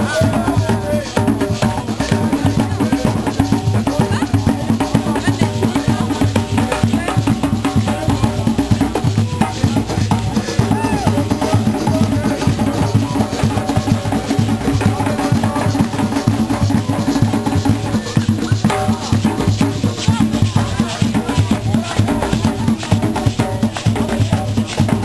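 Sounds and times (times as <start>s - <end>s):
hand drums playing: 0.0s - 25.0s.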